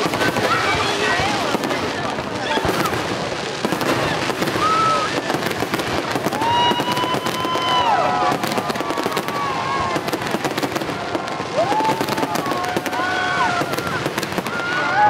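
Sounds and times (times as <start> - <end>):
fireworks crackling and banging: 0.0 - 15.0
high whistling firework tones: 2.4 - 15.0.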